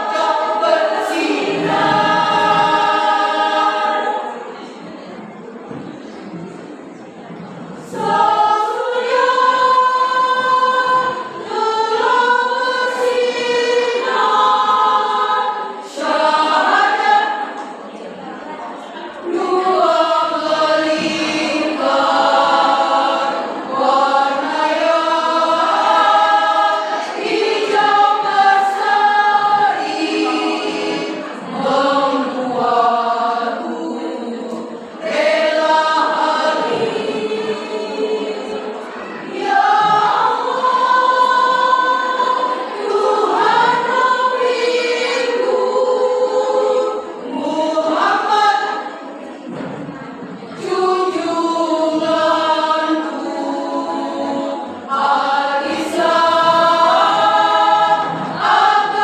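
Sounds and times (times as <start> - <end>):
choir singing in harmony: 0.0 - 59.0.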